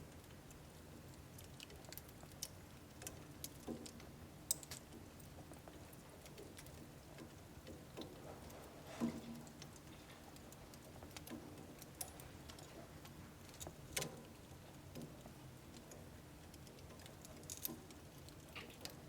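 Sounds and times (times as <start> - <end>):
firewood crackling and popping: 0.0 - 19.0.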